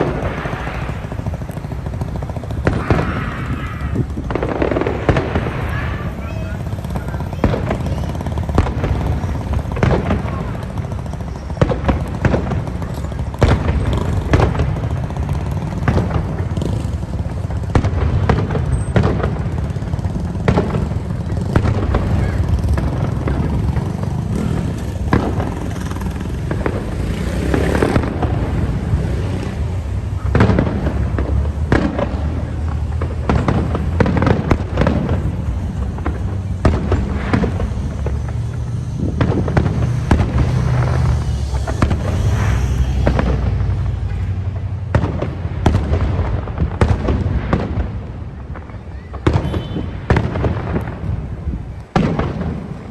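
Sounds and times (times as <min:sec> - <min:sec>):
continuous low rumble: 0:00.0 - 0:52.9
fireworks bursts and bangs: 0:00.0 - 0:52.9.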